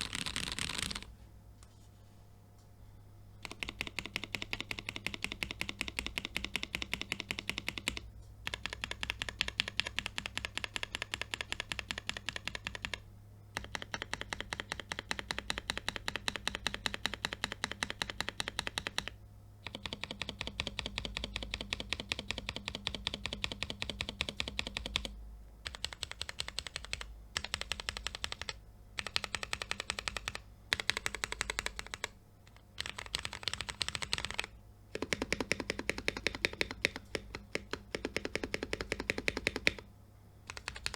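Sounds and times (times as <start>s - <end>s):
typing on mechanical keyboard: 0.0s - 1.1s, 3.4s - 39.9s, 40.5s - 40.9s.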